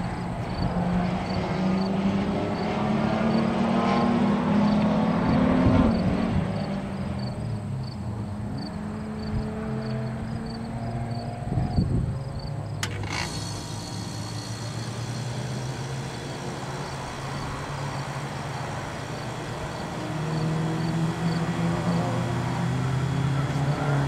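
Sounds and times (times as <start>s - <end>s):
distant race car engine: 0.0s - 24.0s.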